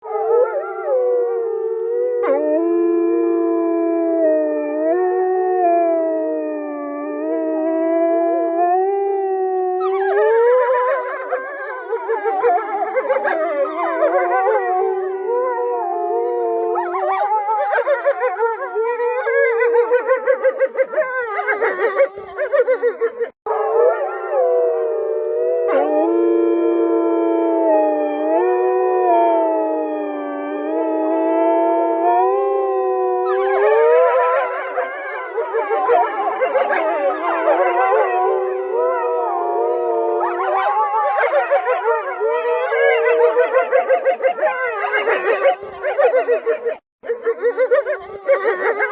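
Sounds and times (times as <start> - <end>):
wolves howling in chorus: 0.0 - 48.9.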